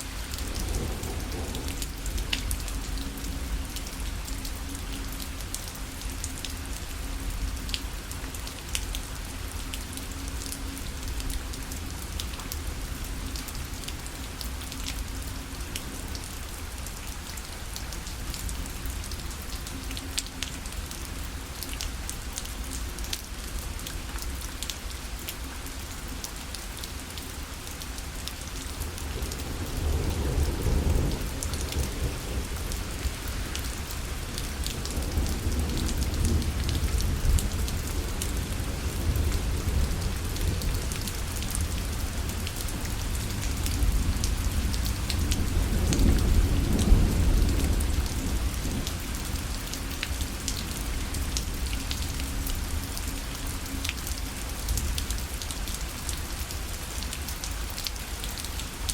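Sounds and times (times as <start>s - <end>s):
rain pattering on a parasol: 0.0s - 58.9s.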